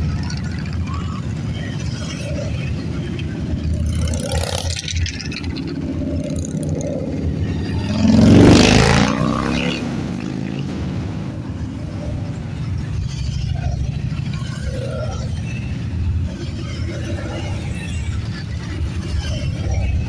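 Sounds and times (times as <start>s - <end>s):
motorcycles rumbling past: 0.0s - 20.0s.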